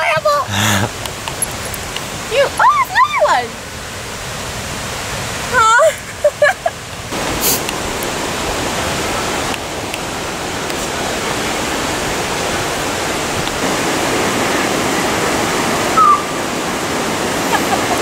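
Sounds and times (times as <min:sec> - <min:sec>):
fast-flowing creek water: 0:00.0 - 0:18.0.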